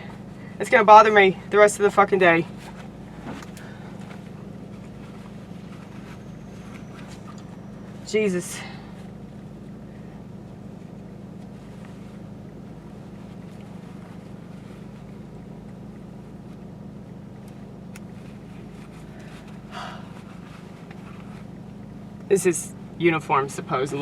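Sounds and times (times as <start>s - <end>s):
car idling hum: 0.0s - 24.0s.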